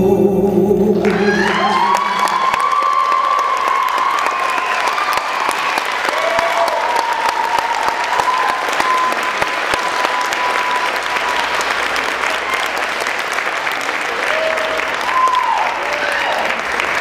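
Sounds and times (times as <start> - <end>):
audience applauding and cheering: 1.0 - 17.0.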